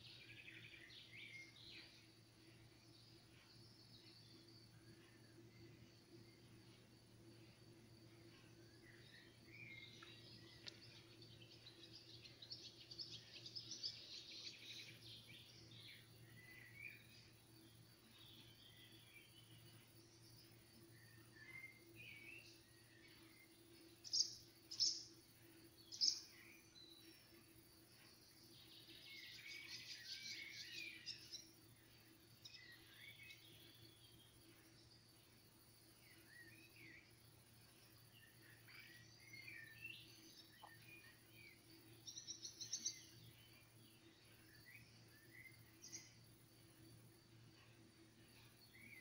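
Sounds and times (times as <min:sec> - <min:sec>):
faint steady hum: 0:00.0 - 0:49.0
wild birds calling and singing: 0:00.0 - 0:49.0.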